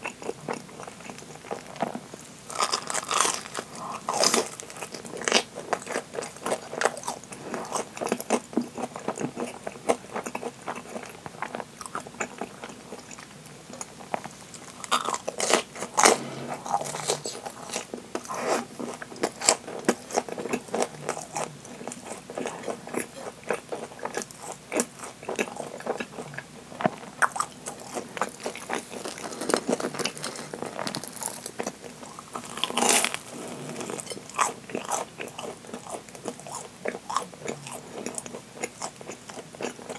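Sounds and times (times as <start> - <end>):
chewing crunchy fried bread: 0.0 - 39.9.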